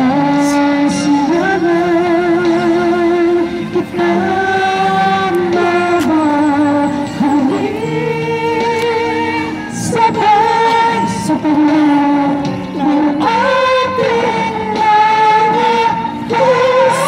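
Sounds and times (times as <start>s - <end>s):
karaoke backing track: 0.0s - 17.0s
man singing into a microphone: 0.0s - 17.0s.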